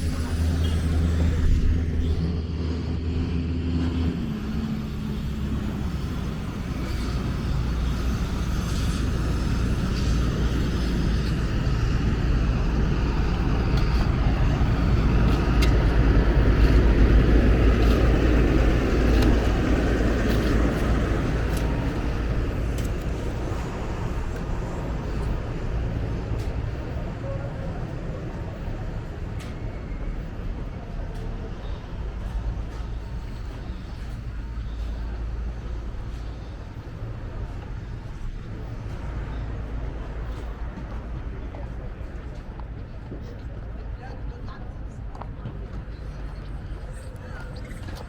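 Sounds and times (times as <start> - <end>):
engine humming: 0.0 - 48.0
vehicle rumble: 0.0 - 48.0.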